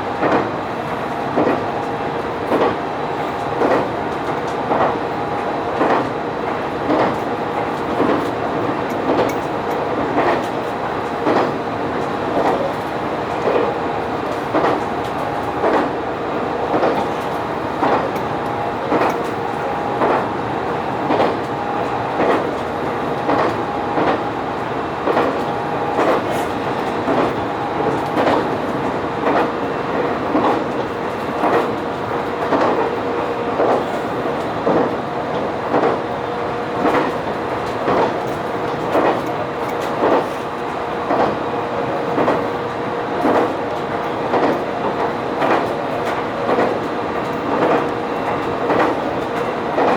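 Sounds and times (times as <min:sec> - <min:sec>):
railcar engine hum: 0:00.0 - 0:49.9.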